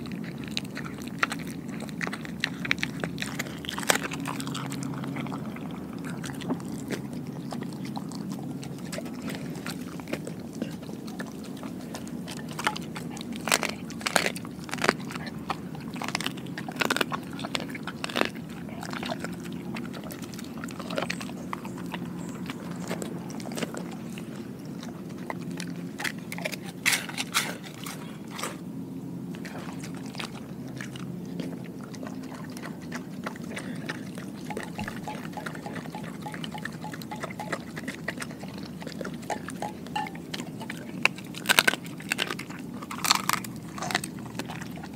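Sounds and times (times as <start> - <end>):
dog chewing and crunching food: 0.0 - 44.9.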